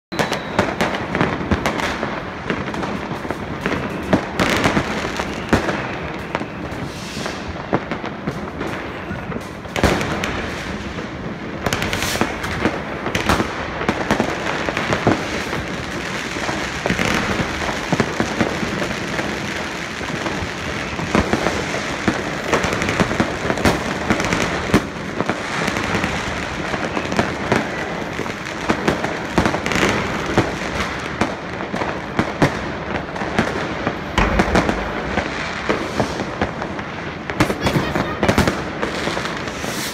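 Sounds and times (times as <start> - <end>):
fireworks crackling and popping: 0.1 - 39.9
loud firework bangs: 0.1 - 39.9.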